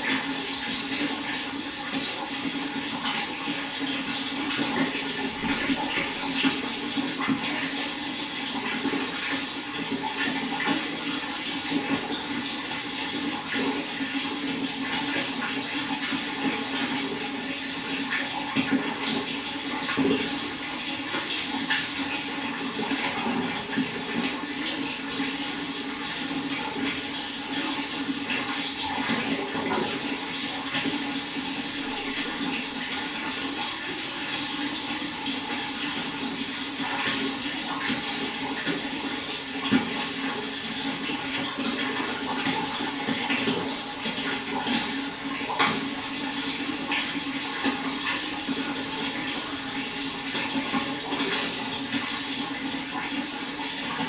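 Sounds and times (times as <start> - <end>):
running water: 0.0 - 54.0
water splashes: 0.0 - 54.0.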